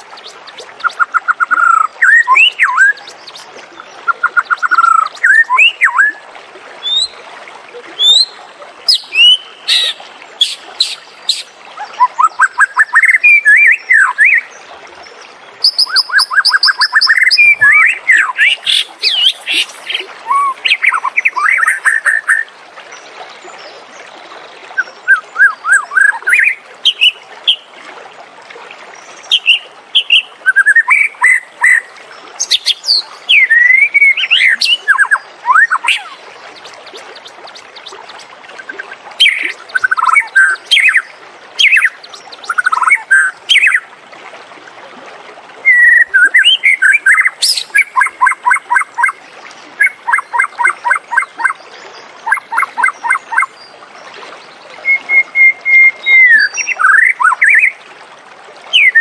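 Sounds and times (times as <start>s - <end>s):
songbird singing: 0.0s - 6.2s, 8.0s - 27.6s, 29.0s - 43.9s, 45.6s - 49.2s, 49.8s - 53.7s, 54.4s - 57.8s.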